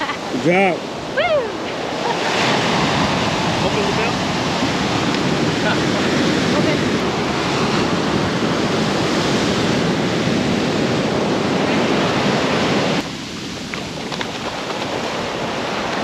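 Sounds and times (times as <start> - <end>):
ocean surf breaking on sand: 0.0 - 16.0
wind buffeting microphone: 0.0 - 16.0.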